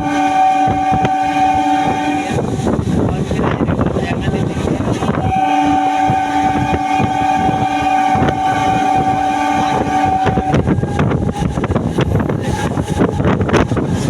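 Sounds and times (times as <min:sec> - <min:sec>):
train horn blast: 0:00.0 - 0:02.8, 0:04.6 - 0:14.0
train rattling and rumbling: 0:00.0 - 0:14.0.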